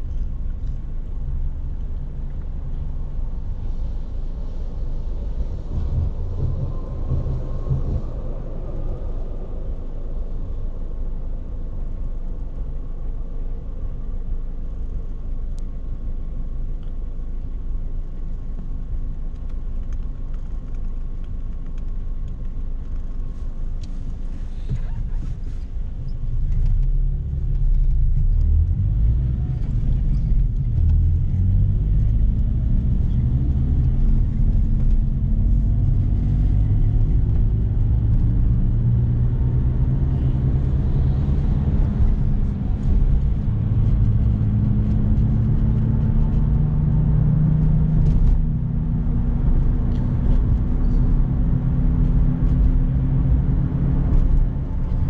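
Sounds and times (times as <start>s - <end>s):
car engine rumbling and accelerating: 0.0s - 55.0s.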